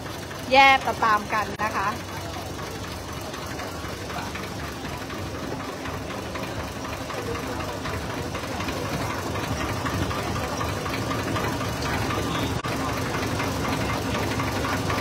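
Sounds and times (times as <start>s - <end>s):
ferry engine rumbling: 0.0s - 15.0s.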